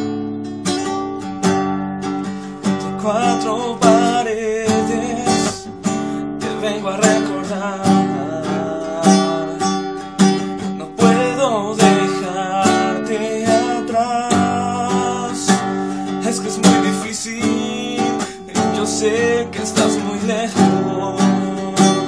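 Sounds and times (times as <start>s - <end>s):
acoustic guitar strumming: 0.0s - 22.0s
man singing: 2.4s - 22.0s.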